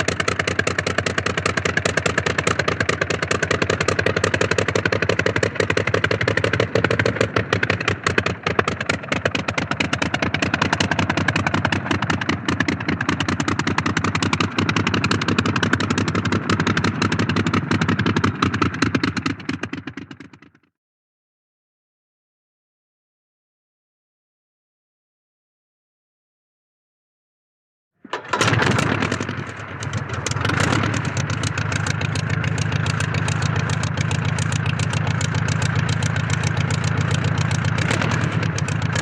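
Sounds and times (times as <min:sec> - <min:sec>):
propeller plane engine idling: 0:00.0 - 0:20.7, 0:28.0 - 0:39.0.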